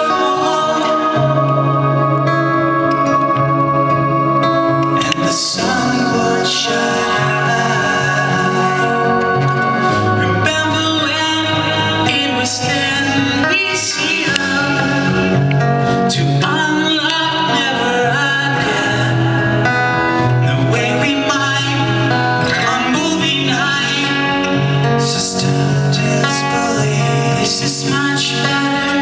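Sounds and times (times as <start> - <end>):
man singing into a microphone: 0.0 - 3.4, 4.8 - 29.0
acoustic guitar: 0.0 - 29.0.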